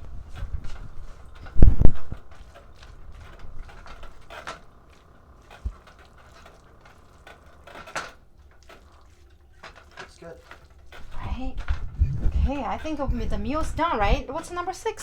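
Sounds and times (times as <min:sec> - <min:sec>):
utensil scraping a pan: 0:00.0 - 0:15.0.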